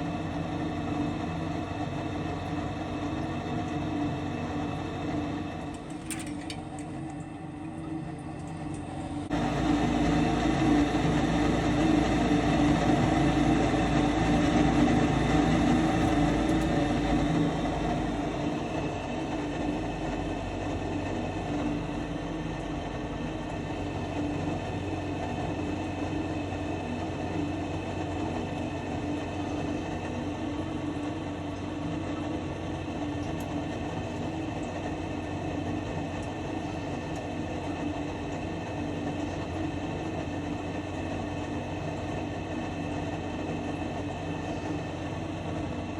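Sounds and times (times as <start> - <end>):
furnace motor humming: 0.0 - 45.9.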